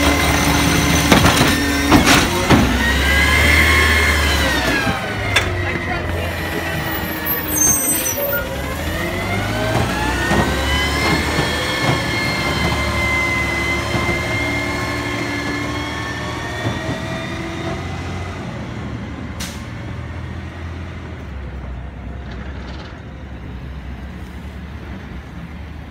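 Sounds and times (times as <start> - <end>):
truck engine whining: 0.0 - 25.9.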